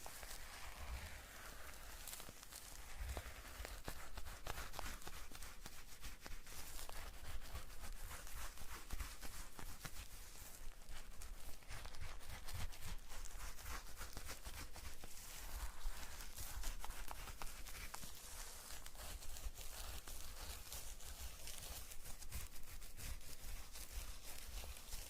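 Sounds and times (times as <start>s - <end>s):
soft crackling and rustling: 0.0s - 25.0s.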